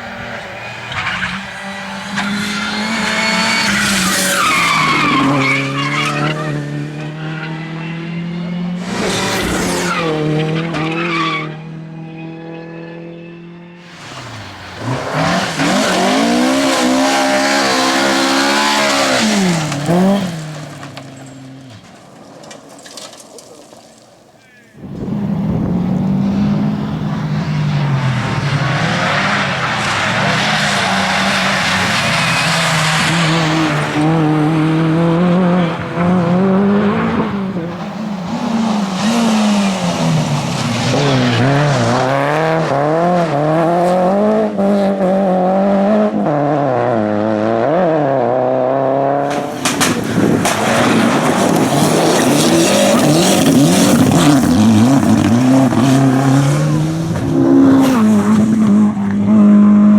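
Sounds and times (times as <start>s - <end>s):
rally car engines racing: 0.0s - 23.9s, 24.7s - 59.9s.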